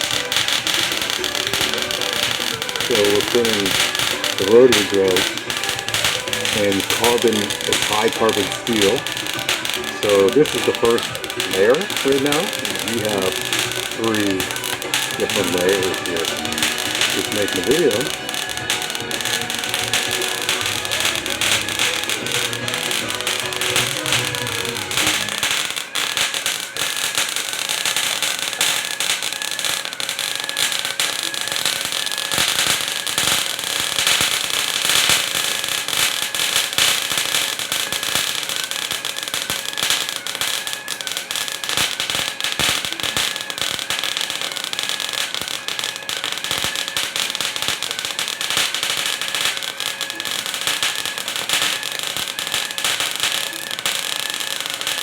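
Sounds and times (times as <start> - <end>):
welding arc crackling and sizzling: 0.0 - 55.0.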